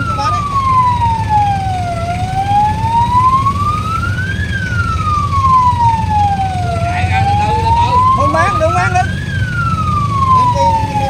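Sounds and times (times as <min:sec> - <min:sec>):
vehicle rumble: 0:00.0 - 0:11.0
wailing siren: 0:00.0 - 0:11.0.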